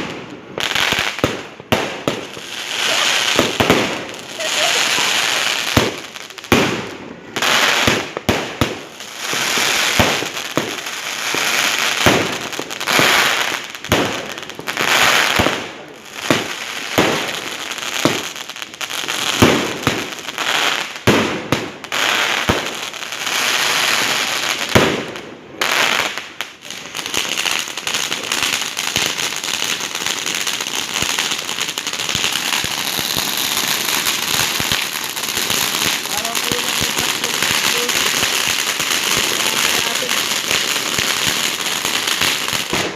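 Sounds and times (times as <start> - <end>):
firecrackers crackling: 0.0 - 42.9
fireworks bangs: 0.0 - 42.9.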